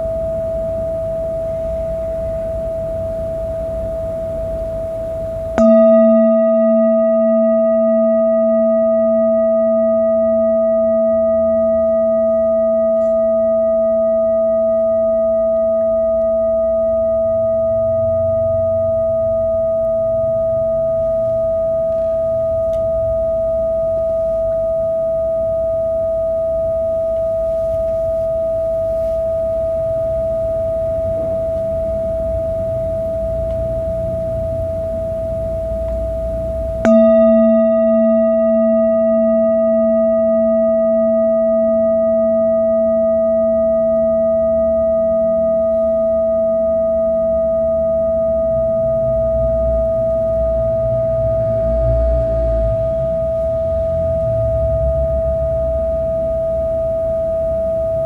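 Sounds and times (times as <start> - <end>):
singing bowl ringing: 0.0 - 58.0.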